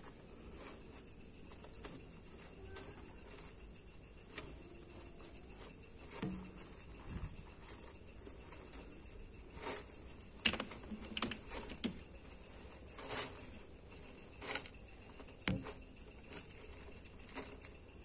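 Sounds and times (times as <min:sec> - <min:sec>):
faint high-pitched whine: 0:00.0 - 0:18.0.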